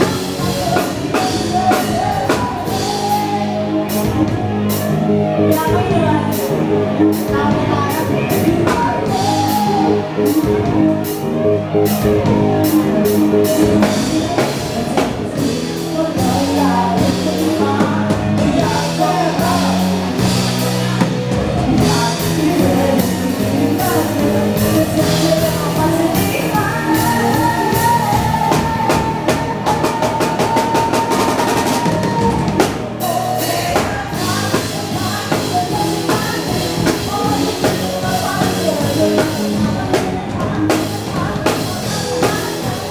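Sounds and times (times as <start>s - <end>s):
live band playing dance-pop: 0.0s - 42.9s
person singing: 0.0s - 42.9s.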